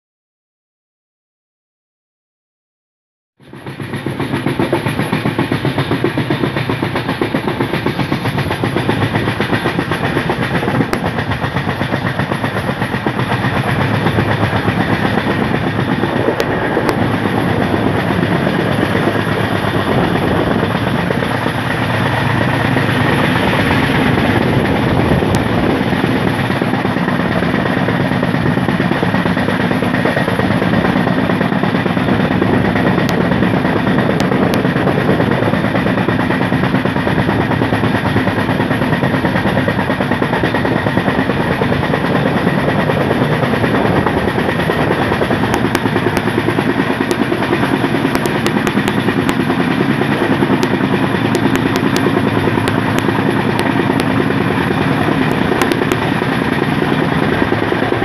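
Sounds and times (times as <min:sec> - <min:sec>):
train wheels rumbling on rails: 0:03.4 - 0:58.0.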